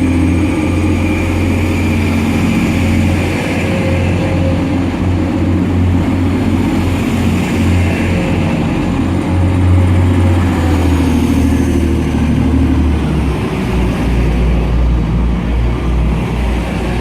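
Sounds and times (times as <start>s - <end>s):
diesel train engine droning: 0.0s - 17.0s.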